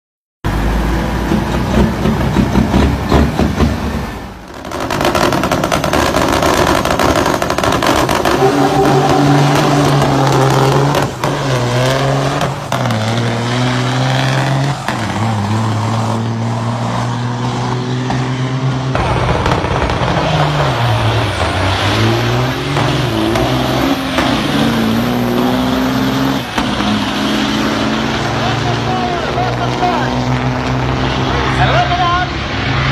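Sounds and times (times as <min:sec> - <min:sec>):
truck engine running: 0:00.5 - 0:31.6.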